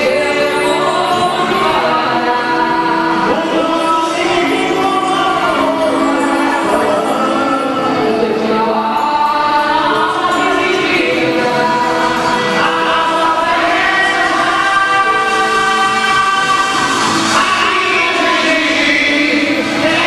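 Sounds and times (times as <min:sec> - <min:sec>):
group singing long held notes: 0:00.0 - 0:20.0.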